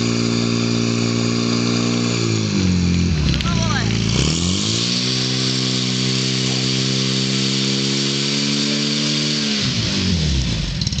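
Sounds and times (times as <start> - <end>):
pump engine running at high revs: 0.0 - 11.0.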